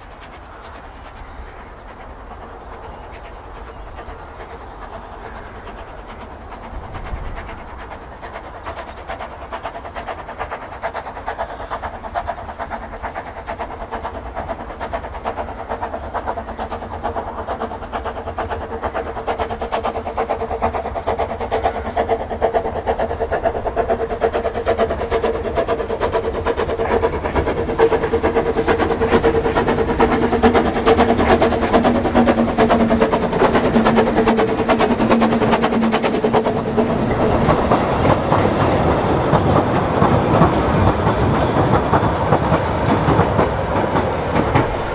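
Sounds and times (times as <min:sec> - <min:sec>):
steam locomotive exhaust beats: 0:00.0 - 0:44.9.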